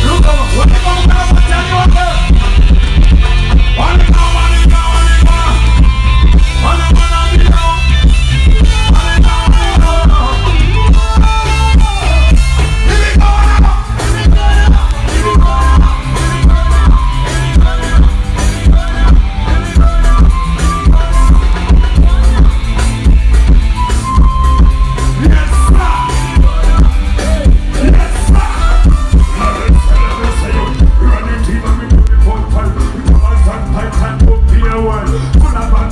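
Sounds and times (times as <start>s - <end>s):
heavy bass: 0.0s - 35.9s
melodic lead line: 0.0s - 35.9s
steady drum beat: 0.0s - 35.9s.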